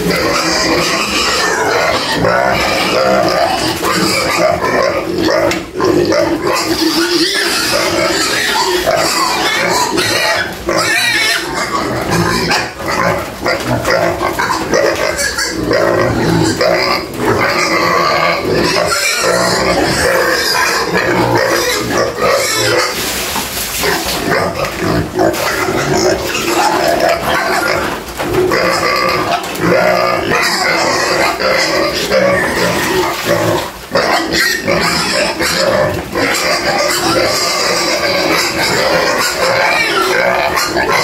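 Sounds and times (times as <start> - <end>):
pigs squealing and grunting: 0.0 - 41.0.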